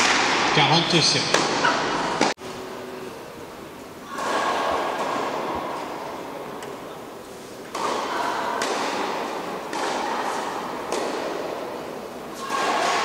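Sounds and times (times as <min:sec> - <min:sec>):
tennis balls hit by rackets: 0:00.0 - 0:00.5, 0:01.3 - 0:02.4, 0:04.0 - 0:13.0.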